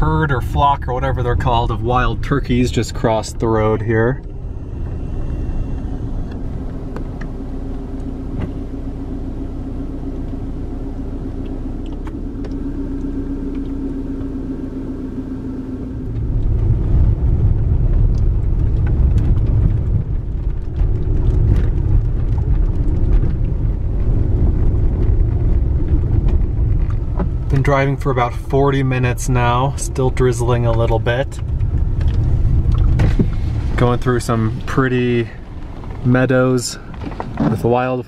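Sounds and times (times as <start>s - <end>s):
car engine hum: 0.0s - 38.0s
tyres rumbling on dirt road: 0.0s - 38.0s.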